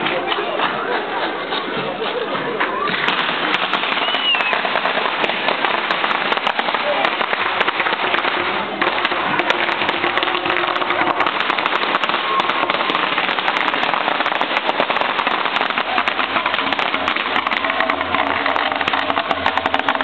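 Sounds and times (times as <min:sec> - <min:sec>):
firecrackers popping: 0:00.0 - 0:20.0.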